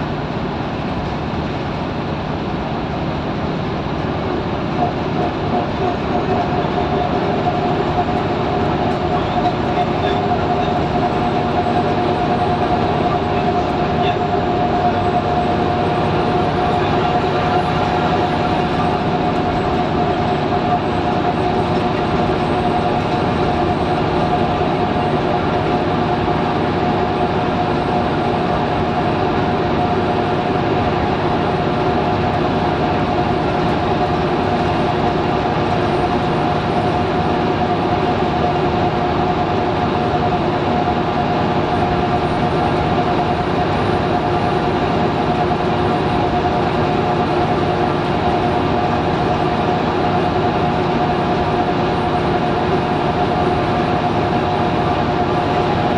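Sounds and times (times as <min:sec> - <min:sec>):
bus engine whine: 0:00.0 - 0:55.9
road and tyre noise: 0:00.0 - 0:55.9.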